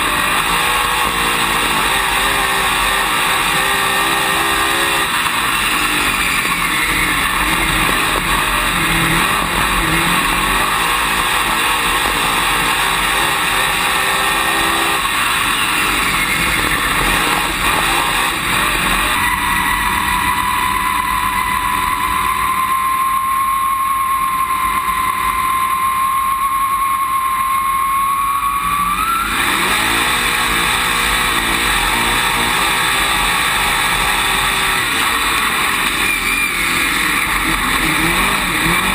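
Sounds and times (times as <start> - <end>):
race car engine at speed: 0.0 - 38.9.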